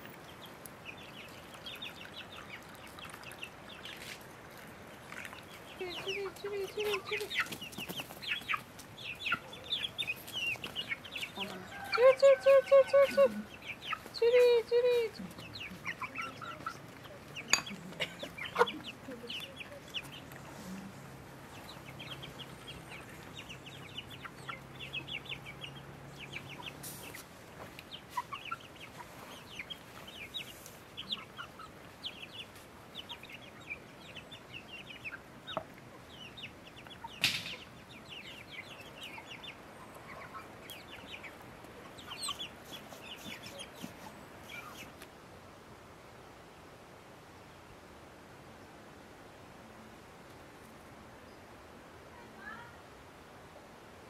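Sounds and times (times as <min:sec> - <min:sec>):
chickens clucking: 0:00.0 - 0:45.2.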